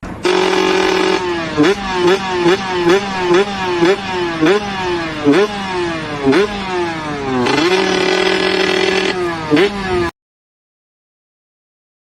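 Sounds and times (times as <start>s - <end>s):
small engine revving: 0.0s - 10.1s.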